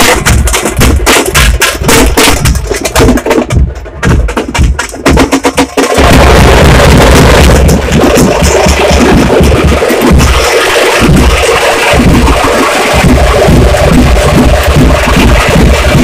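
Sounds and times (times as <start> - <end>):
bass drum thuds: 0.0 - 16.0
drum sticks striking frame drums: 0.0 - 16.0.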